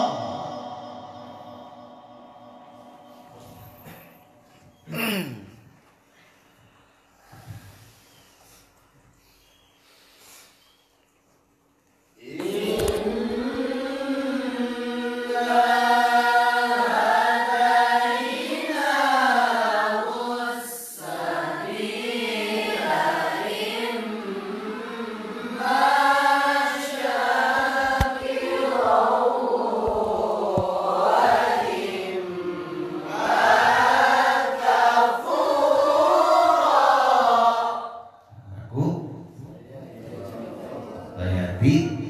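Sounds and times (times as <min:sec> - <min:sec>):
group of voices reciting in unison: 0:00.0 - 0:05.6, 0:12.2 - 0:42.0.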